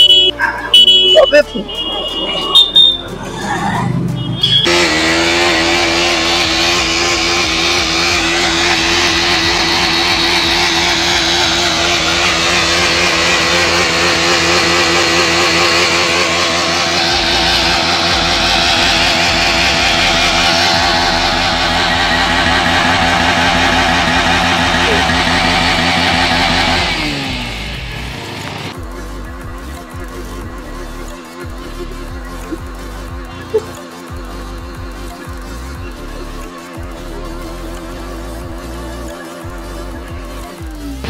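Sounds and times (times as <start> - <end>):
motorcycle engine at high revs: 4.2 - 41.0.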